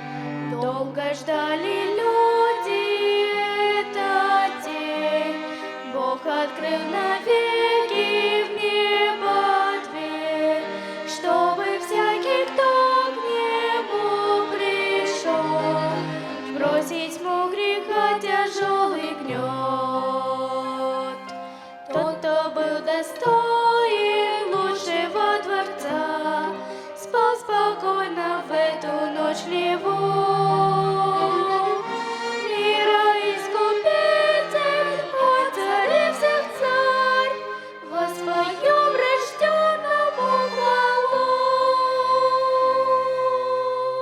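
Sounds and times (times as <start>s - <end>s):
chordal accompaniment: 0.0s - 44.0s
violin melody: 0.0s - 44.0s.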